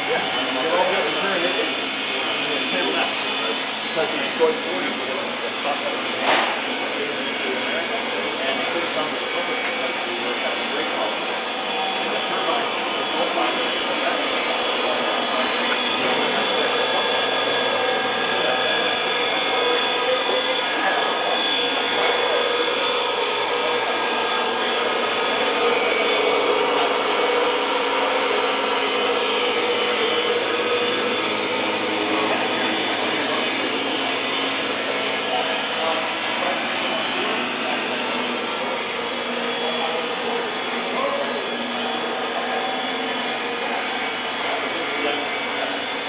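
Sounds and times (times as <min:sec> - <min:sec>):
faint voices: 0:00.0 - 0:46.0
steady mechanical rushing noise: 0:00.0 - 0:46.0.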